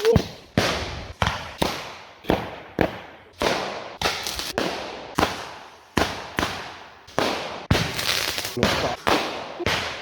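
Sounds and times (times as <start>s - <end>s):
firecrackers banging with echo: 0.0s - 10.0s.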